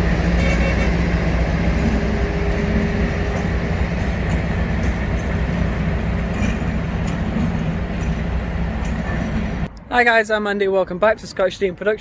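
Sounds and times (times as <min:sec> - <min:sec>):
diesel locomotive engine droning: 0:00.0 - 0:09.9.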